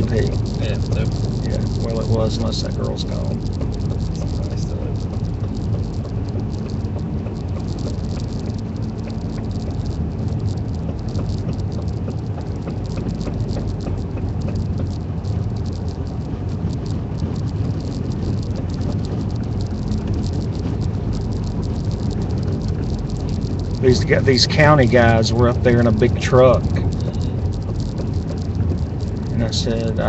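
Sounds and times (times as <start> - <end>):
tire chains rattling on snowy road: 0.0 - 30.0
vehicle rumble: 0.0 - 30.0.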